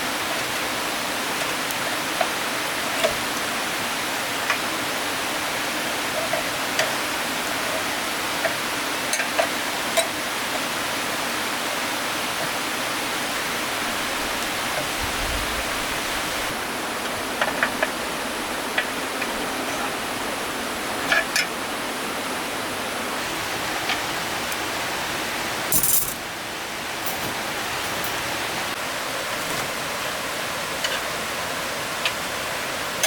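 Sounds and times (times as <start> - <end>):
stream water flowing: 0.0 - 33.0.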